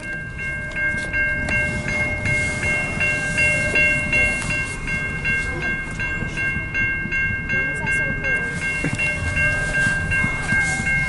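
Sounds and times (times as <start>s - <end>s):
freight train rumbling: 0.0s - 11.0s
railroad crossing bell ringing: 0.0s - 11.0s.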